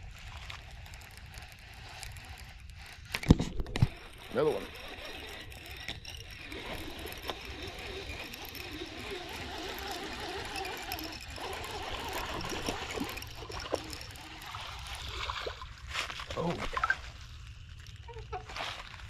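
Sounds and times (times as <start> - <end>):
fishing reel whirring: 0.0 - 19.0.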